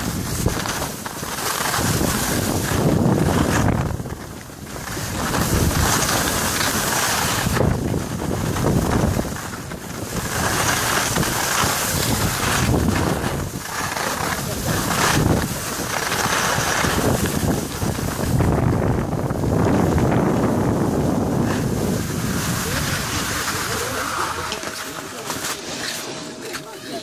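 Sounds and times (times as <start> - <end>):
wind rushing over microphone: 0.0 - 24.8
skis sliding on packed snow: 0.0 - 27.0.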